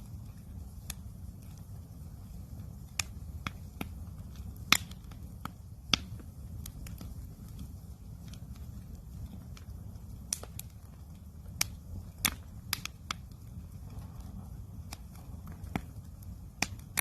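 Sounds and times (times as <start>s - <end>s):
campfire crackling: 0.0s - 17.0s
low steady rumble: 0.0s - 17.0s.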